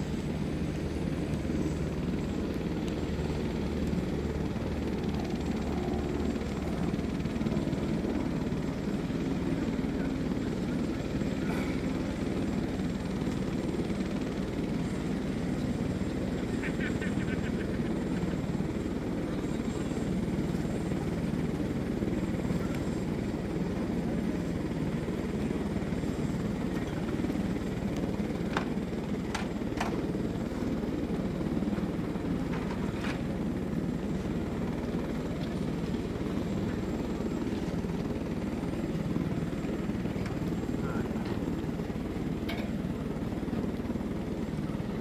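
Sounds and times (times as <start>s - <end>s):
helicopter engine and rotor drone: 0.0s - 45.0s.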